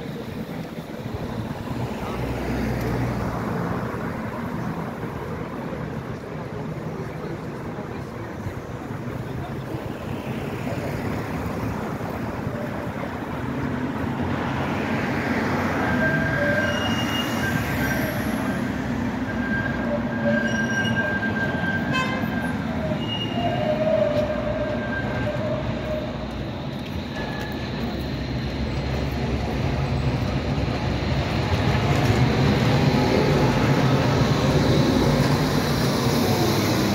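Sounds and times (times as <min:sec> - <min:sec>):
tram rumble: 0:00.0 - 0:36.9
tram wheels squealing: 0:00.0 - 0:36.9.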